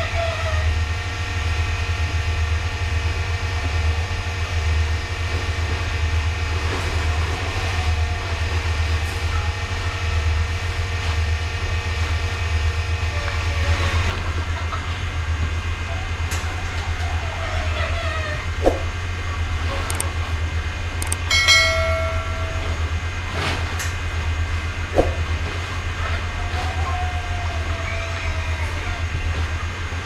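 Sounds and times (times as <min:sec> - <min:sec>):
low mechanical rumble: 0:00.0 - 0:30.0
multi-tone hum: 0:00.0 - 0:30.0.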